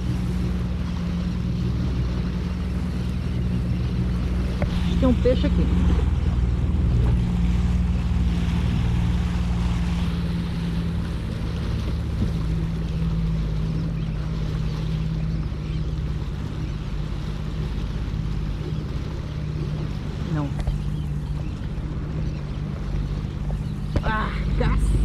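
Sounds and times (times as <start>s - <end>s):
jet ski engine running: 0.0s - 25.0s
water noise: 0.0s - 25.0s.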